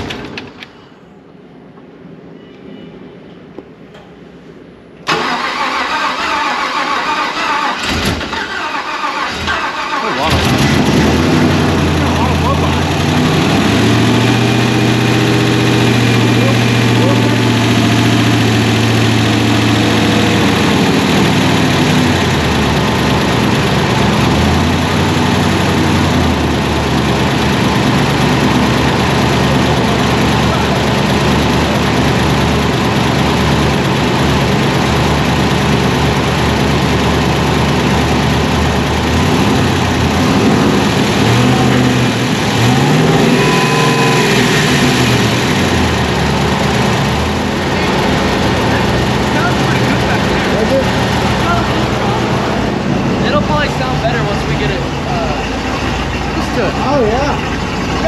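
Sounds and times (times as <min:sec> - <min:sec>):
v-eight engine idling and revving: 0:05.1 - 0:58.0.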